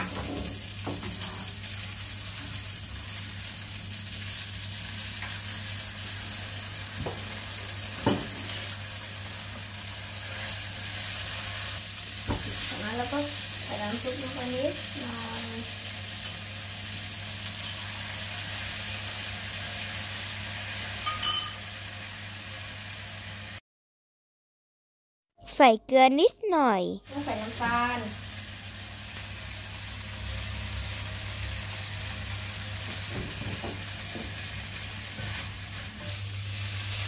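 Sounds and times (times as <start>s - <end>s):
food sizzling in a wok: 0.0s - 23.6s, 27.1s - 37.0s.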